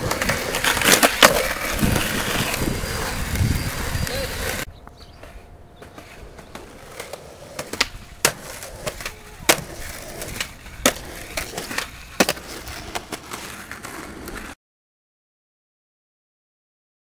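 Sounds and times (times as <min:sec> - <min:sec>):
skateboard clacks: 0:00.0 - 0:14.6
skateboard wheels rolling on concrete: 0:00.0 - 0:14.6.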